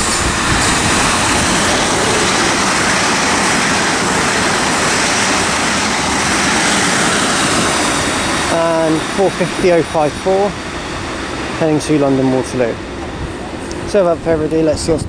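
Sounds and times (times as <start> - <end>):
electric trains passing: 0.0 - 15.0.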